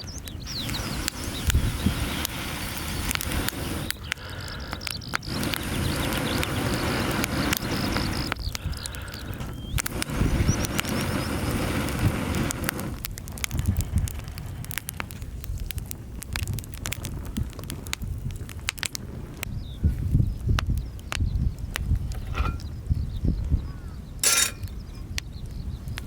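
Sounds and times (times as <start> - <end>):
fire hissing: 0.0 - 23.0, 24.2 - 24.8
firewood crackling and popping: 0.0 - 26.0
low fire rumble: 0.0 - 26.0.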